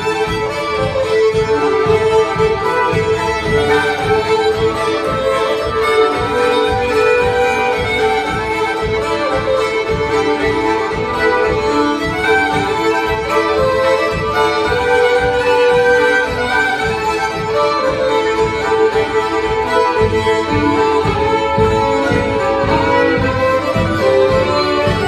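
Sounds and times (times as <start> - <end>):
fiddles playing in unison: 0.0 - 25.0.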